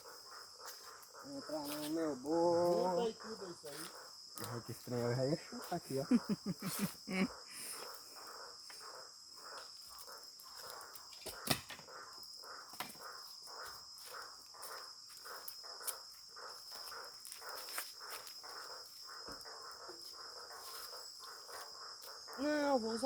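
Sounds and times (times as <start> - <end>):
crickets chirping: 0.0 - 23.0
low pulsing insect call: 0.0 - 23.0.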